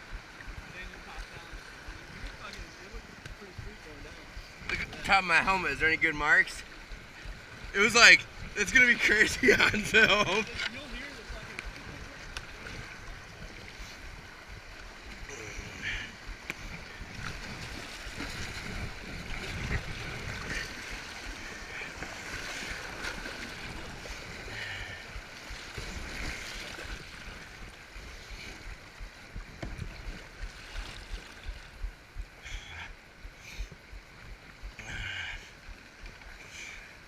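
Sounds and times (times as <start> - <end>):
creek water rushing and splashing: 0.0 - 37.0.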